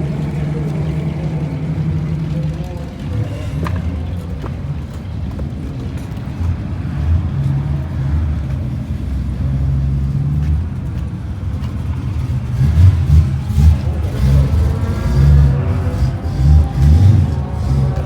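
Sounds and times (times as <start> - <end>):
race car engine rumbling: 0.0 - 18.0.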